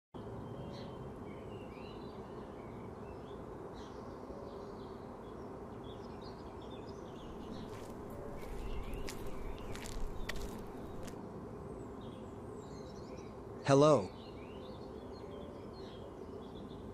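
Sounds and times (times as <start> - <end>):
low background noise: 0.2 - 16.9
small birds chirping: 0.2 - 16.9.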